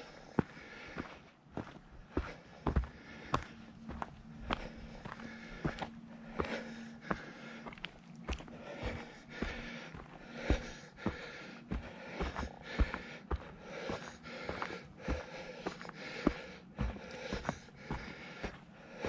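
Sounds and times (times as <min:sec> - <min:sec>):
footsteps on dirt trail: 0:00.0 - 0:19.0
person breathing: 0:00.0 - 0:19.0.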